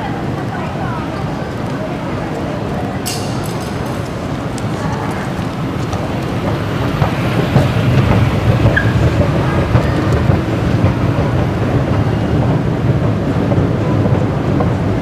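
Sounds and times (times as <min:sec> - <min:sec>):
escalator rumble: 0:00.0 - 0:15.0.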